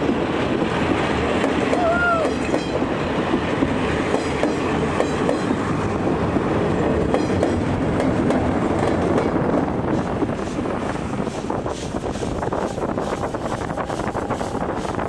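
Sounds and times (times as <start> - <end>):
diesel locomotive passing: 0.0 - 15.0
train wheels clattering on bridge: 0.0 - 15.0.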